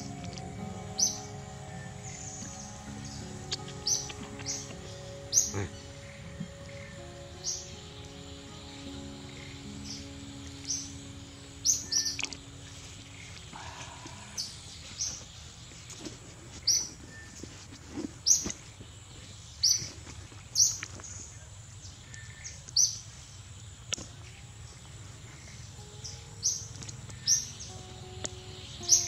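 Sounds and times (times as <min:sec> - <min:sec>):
bird chirping: 0:00.0 - 0:23.4, 0:24.2 - 0:29.0
outdoor background hiss: 0:00.0 - 0:29.0.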